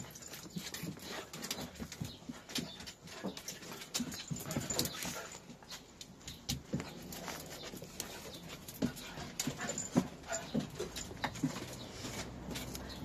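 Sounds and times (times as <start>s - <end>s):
small dogs panting: 0.0s - 6.0s, 6.6s - 13.0s.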